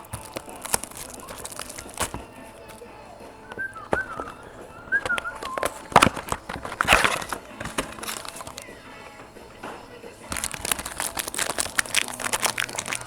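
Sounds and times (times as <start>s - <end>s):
cards and packaging crinkling: 0.0s - 13.0s.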